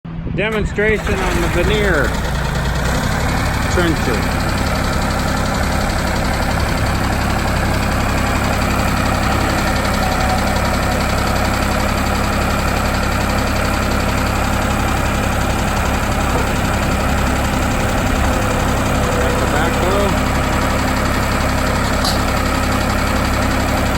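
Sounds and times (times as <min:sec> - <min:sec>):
diesel engine idling: 0:00.4 - 0:23.9.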